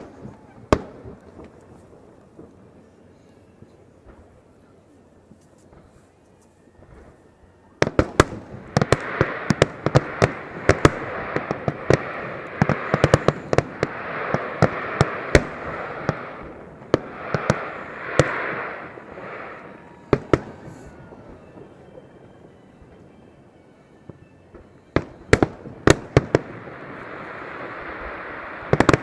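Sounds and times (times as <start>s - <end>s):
fireworks bangs: 0.0s - 3.0s, 7.8s - 23.3s, 24.1s - 29.0s
fireworks crackle: 0.0s - 29.0s.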